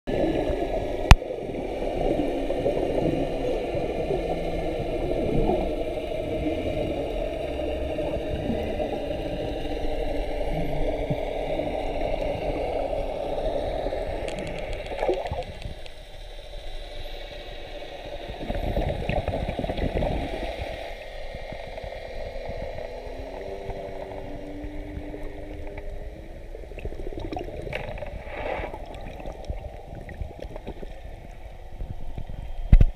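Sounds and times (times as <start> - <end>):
muffled underwater water noise: 0.1 - 32.9.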